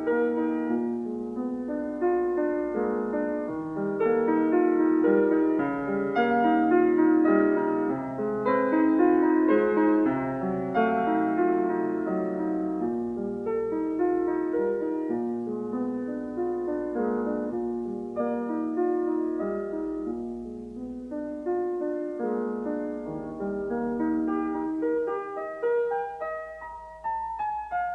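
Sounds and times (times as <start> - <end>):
calm piano music: 0.0 - 27.9.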